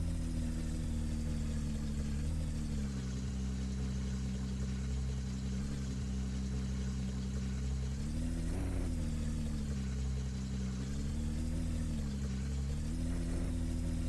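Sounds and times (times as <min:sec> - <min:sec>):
engine running at low speed: 0:00.0 - 0:14.0.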